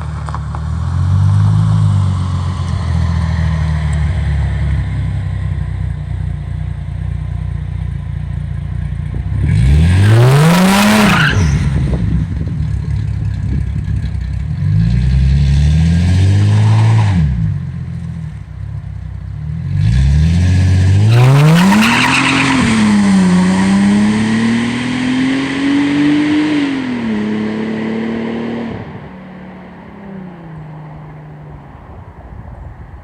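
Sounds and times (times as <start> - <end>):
car engine accelerating: 0.0 - 32.3.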